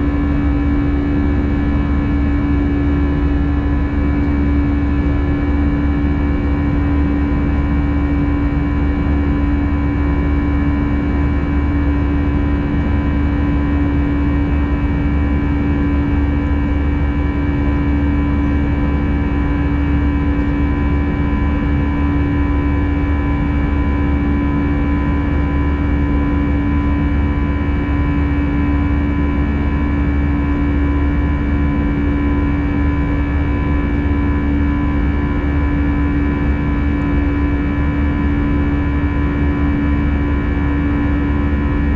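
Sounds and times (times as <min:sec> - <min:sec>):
airplane cabin engine drone: 0:00.0 - 0:41.9.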